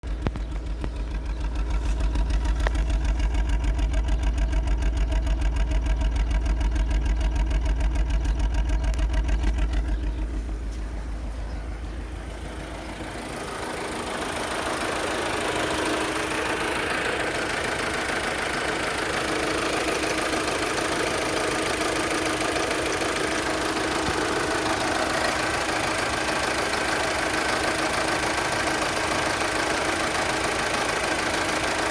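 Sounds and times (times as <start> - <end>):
car engine idling roughly: 0.0 - 31.9.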